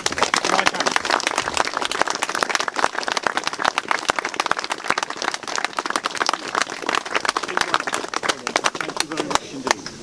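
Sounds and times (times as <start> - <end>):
close hand claps: 0.0 - 10.0
crowd applauding: 0.0 - 10.0.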